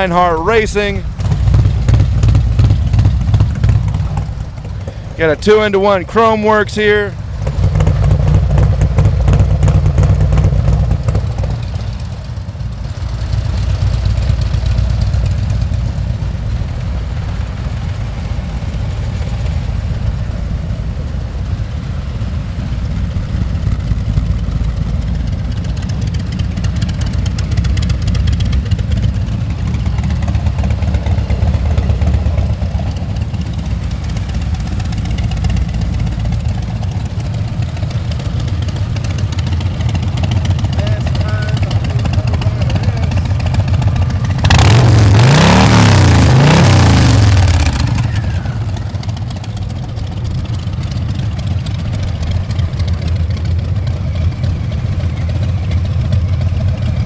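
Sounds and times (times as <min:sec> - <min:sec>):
motorcycle engines idling: 0:00.0 - 0:57.0.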